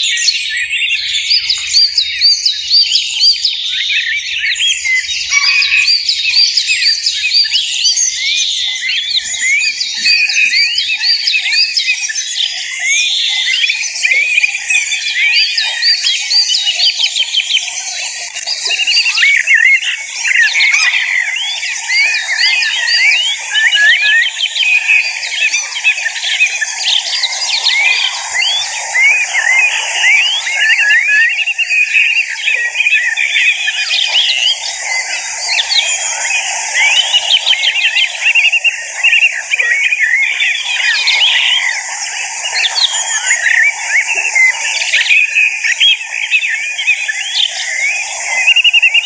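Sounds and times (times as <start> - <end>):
songbirds twittering and chirping: 0.0 - 49.0.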